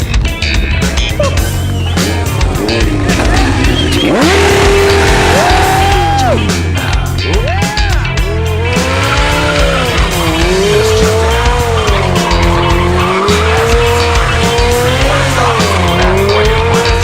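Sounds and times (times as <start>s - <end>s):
rock music: 0.0s - 17.0s
motorcycle engine revving: 1.0s - 17.0s.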